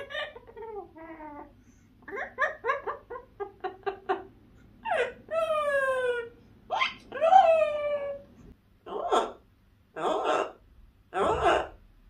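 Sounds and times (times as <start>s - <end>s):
parrot calling: 0.0s - 4.2s, 4.8s - 11.8s.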